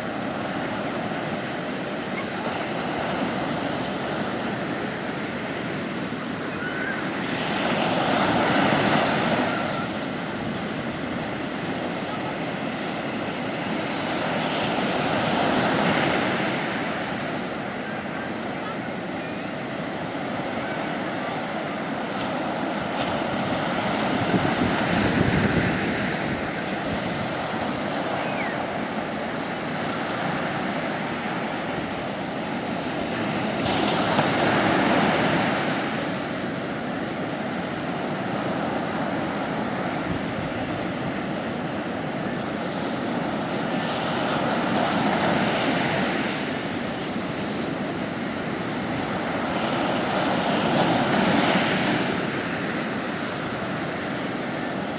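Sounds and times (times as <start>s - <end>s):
sea waves washing onto beach: 0.0s - 54.9s.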